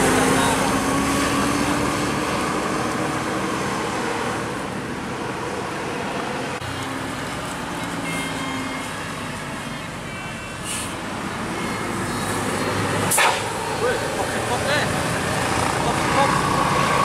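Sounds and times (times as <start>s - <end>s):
vehicles passing by: 0.0s - 17.0s.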